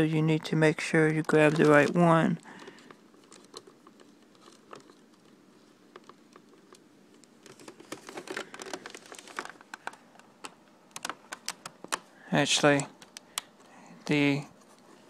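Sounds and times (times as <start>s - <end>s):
hands handling plastic case: 0.4s - 15.0s.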